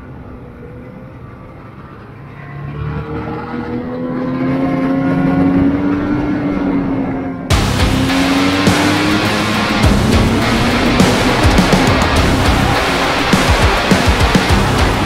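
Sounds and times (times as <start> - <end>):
snowmobile engine speeding up: 0.0 - 15.0.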